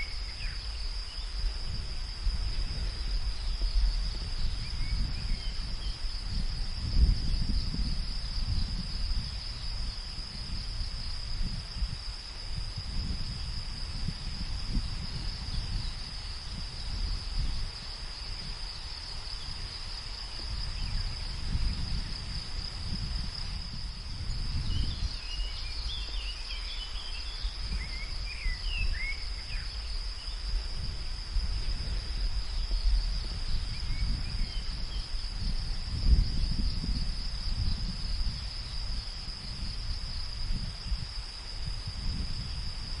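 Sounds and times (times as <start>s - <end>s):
high-pitched insect drone: 0.0s - 43.0s
low wind rumble: 0.0s - 43.0s.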